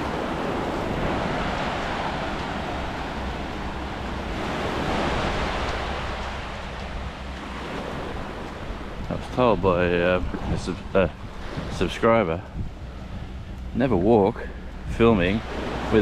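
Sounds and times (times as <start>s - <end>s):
small waves washing onto beach: 0.0s - 16.0s
wind rumble on microphone: 0.0s - 16.0s.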